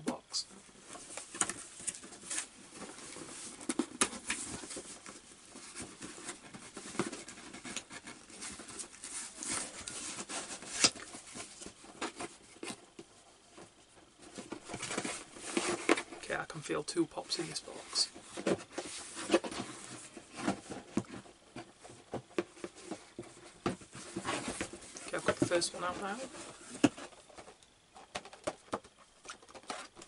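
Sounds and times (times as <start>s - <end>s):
cardboard rustling and scratching: 0.0s - 30.0s.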